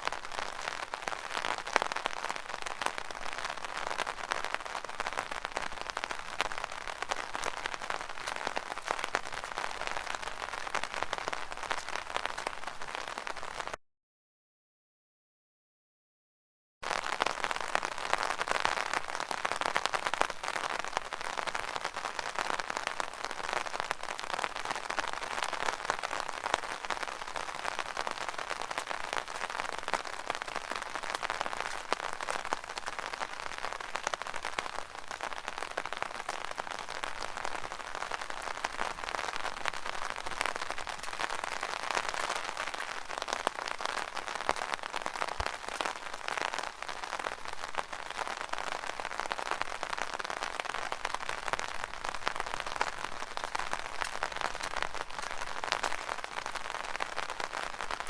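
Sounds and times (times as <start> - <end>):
rain on an umbrella: 0.0 - 13.8, 16.8 - 58.0.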